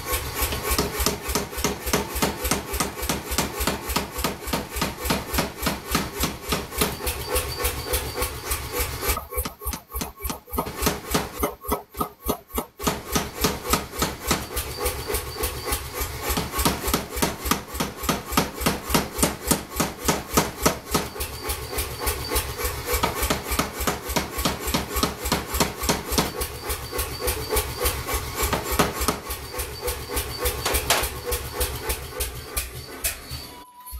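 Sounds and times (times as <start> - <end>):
forging hammer striking hot steel: 0.4 - 33.6.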